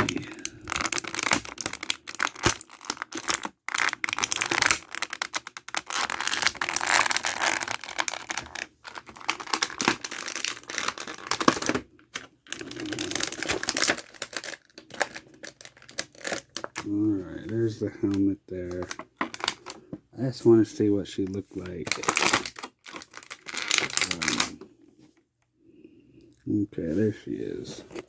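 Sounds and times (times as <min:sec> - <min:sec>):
plastic packaging crinkling: 0:00.0 - 0:19.8, 0:21.8 - 0:24.6.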